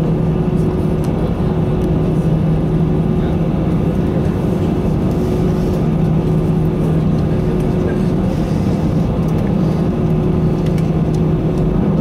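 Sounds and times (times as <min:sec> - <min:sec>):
jet engines heard from cabin: 0:00.0 - 0:12.0.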